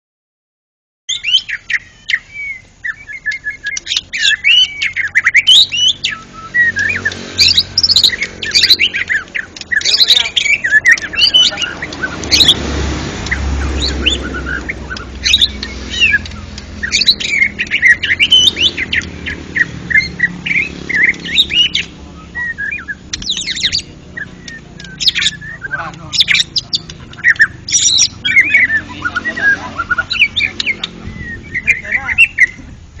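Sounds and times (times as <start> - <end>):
bird singing loudly: 1.1 - 33.0.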